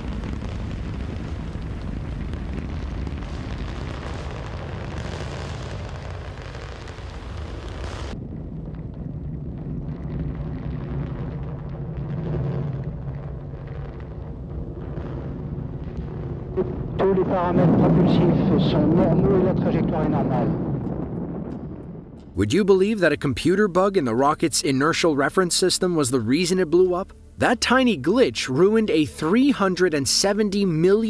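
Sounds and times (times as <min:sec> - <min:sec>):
rocket engine rumbling: 0:00.0 - 0:31.0.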